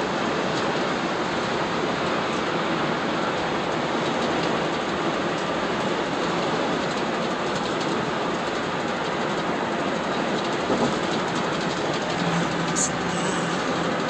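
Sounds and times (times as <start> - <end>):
tyres rolling on pavement: 0.0 - 14.0.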